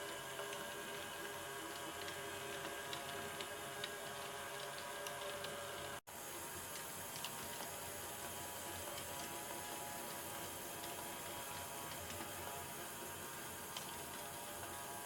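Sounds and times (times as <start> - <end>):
faint mechanism ticks: 0.0 - 6.0, 6.6 - 15.0.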